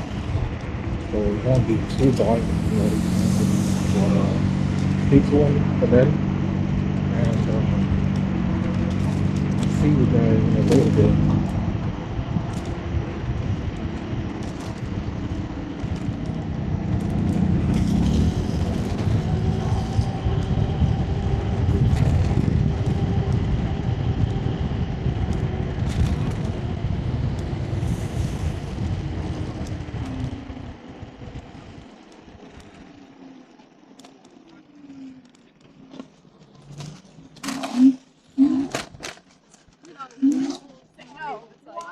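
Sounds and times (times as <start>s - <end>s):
faint steady whine: 0.0s - 38.5s
wind rumbling on microphone: 0.0s - 41.9s.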